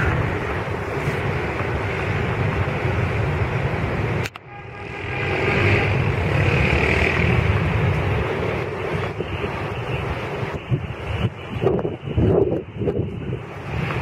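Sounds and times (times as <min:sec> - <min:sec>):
turboprop airliner engines: 0:00.0 - 0:14.0
wind noise on microphone: 0:00.0 - 0:14.0.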